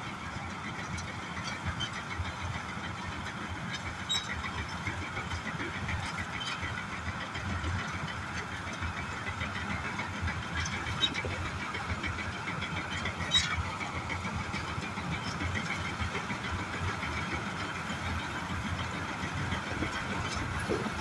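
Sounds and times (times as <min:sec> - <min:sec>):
harvester engine ticking: 0:00.0 - 0:21.0.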